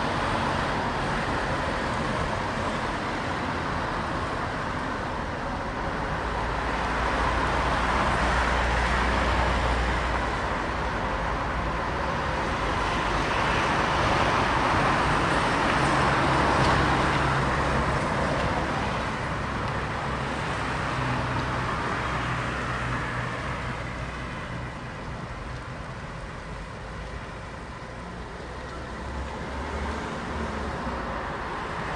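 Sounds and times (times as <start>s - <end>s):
vehicles passing by: 0.0s - 31.9s.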